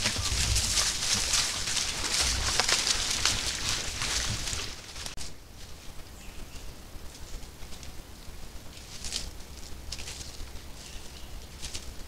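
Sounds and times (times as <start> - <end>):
dry leaves crackling under footsteps: 0.0 - 12.0.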